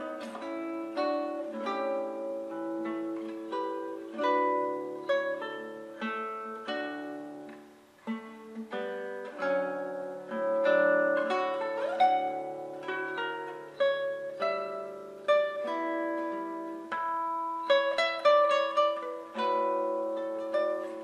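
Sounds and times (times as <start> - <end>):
plucked string instrument music: 0.0 - 21.0.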